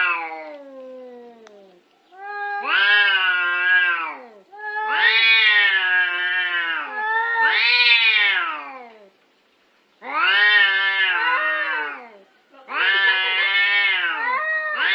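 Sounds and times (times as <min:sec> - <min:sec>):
cat yowling: 0:00.0 - 0:09.1, 0:10.0 - 0:14.9.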